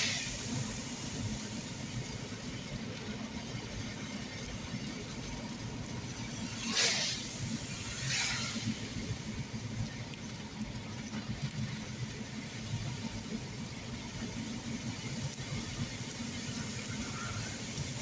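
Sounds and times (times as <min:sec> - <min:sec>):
car road and engine noise: 0:00.0 - 0:18.0
heavy rain on car: 0:00.0 - 0:18.0.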